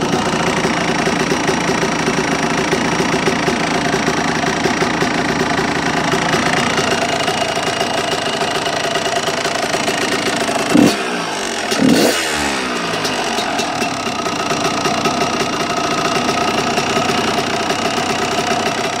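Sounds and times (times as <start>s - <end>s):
engine running with rattling knock: 0.0s - 19.0s.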